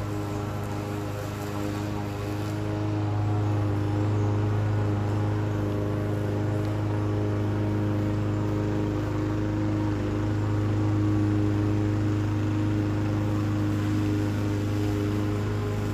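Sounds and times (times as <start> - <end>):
lawn mower engine running: 0.0 - 15.9.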